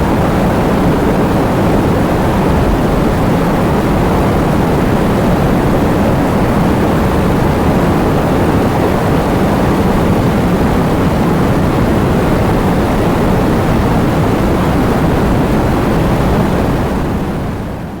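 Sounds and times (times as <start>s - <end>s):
rain: 0.0s - 17.6s
heavy wind: 0.0s - 18.0s.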